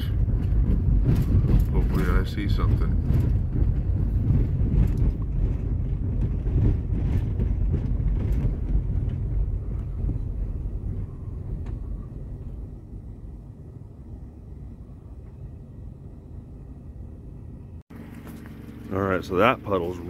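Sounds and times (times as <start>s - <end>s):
car rumbling on rough road: 0.0s - 20.0s.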